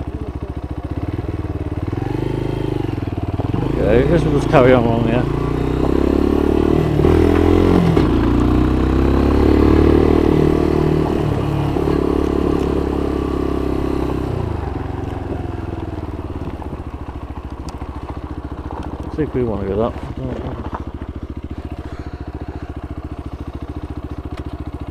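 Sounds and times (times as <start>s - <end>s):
motorcycle engine revving and idling: 0.0s - 24.9s.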